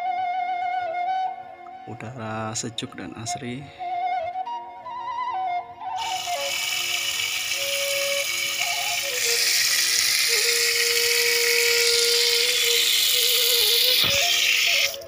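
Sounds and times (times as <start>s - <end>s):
soft flute-like melody: 0.0s - 15.0s.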